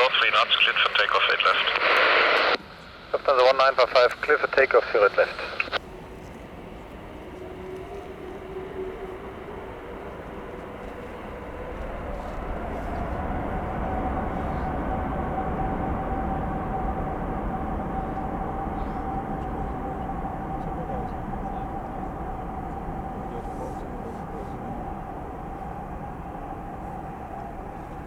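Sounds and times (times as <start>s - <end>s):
jet engine roar with whine: 0.0s - 28.0s.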